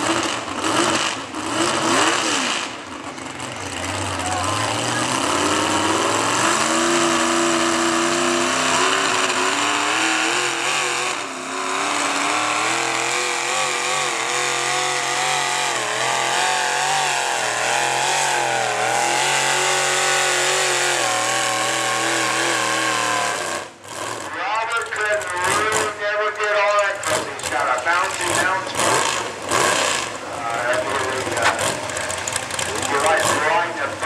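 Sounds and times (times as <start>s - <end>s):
truck engine at full throttle: 0.0s - 34.0s.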